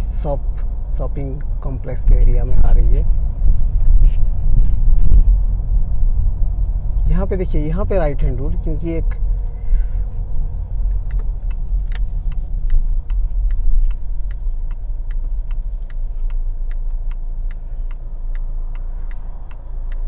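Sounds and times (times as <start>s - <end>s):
engine and tyre rumble: 0.0s - 20.0s
turn signal ticking: 0.0s - 20.0s.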